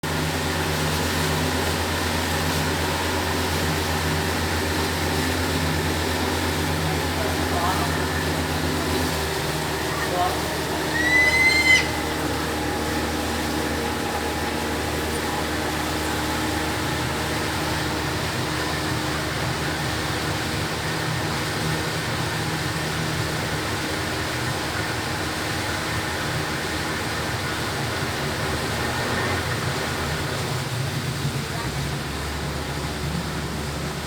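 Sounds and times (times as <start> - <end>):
boat motor humming: 0.0 - 34.0.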